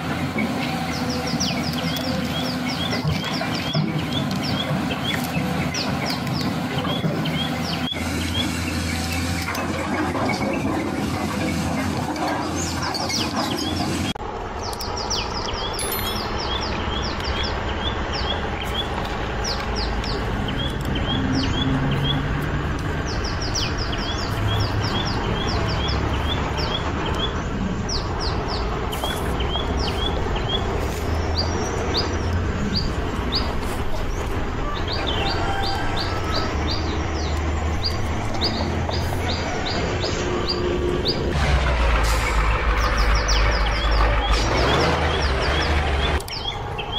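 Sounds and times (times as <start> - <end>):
small birds chirping: 0.0 - 41.3, 42.7 - 46.9.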